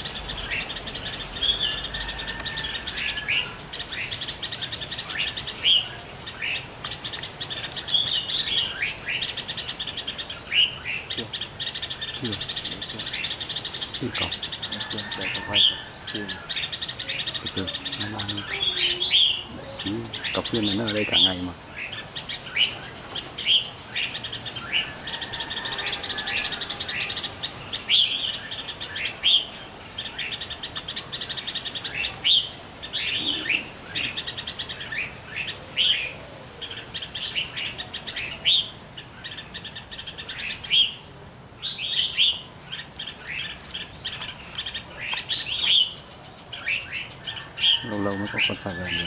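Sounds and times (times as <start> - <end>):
songbird chirps and rattling trills: 0.0 - 49.0.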